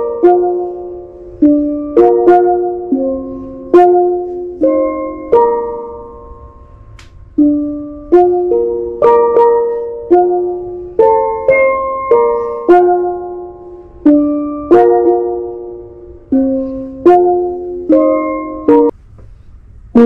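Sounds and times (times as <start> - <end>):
steelpan melody: 0.0 - 19.0.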